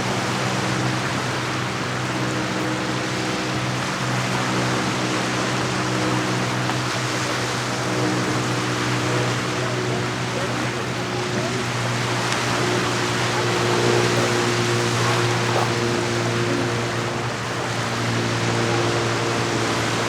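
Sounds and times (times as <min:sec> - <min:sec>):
boat engine droning: 0:00.0 - 0:20.0
water and waves washing: 0:00.0 - 0:20.0.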